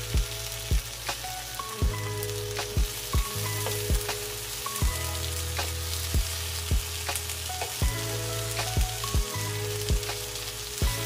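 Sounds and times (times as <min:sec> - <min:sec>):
background music with low beat: 0:00.0 - 0:11.0
eggplant sizzling in oil: 0:00.0 - 0:11.0.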